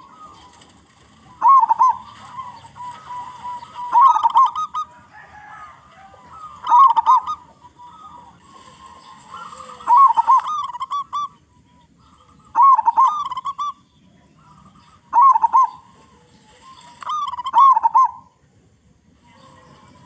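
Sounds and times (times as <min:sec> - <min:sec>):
dove cooing song: 0:00.0 - 0:20.0.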